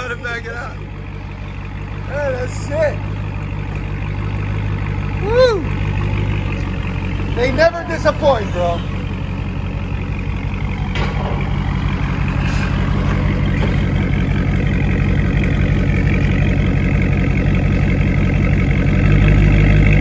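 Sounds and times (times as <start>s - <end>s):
car engine deep rumble: 0.0s - 20.0s.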